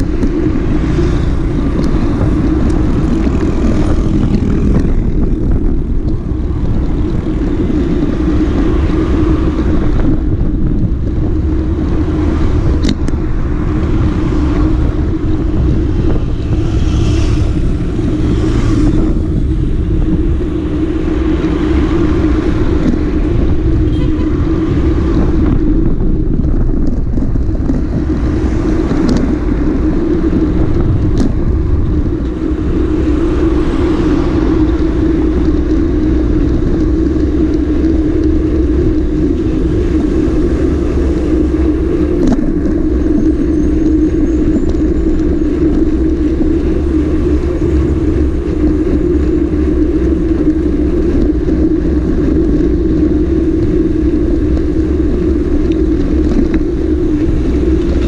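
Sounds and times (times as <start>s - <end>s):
motorcycle engine hum: 0.0s - 58.0s
wind and road rumble: 0.0s - 58.0s.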